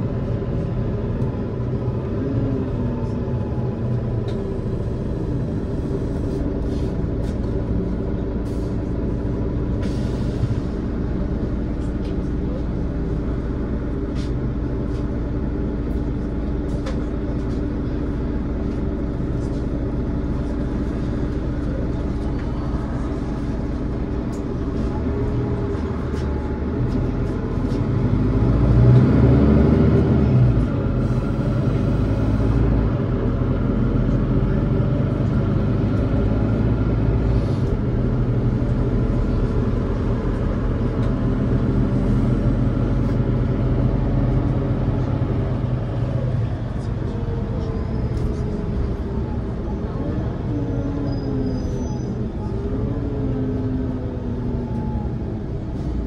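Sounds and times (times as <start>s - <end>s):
bus diesel engine running: 0.0s - 56.0s
low road rumble: 0.0s - 56.0s.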